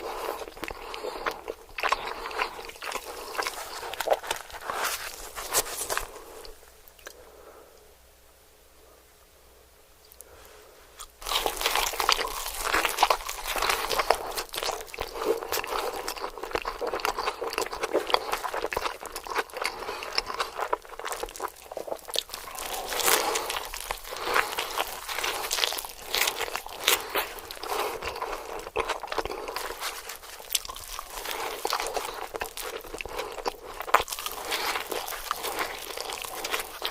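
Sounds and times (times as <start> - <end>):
wet chewing and crunching: 0.0 - 7.2, 11.0 - 36.9.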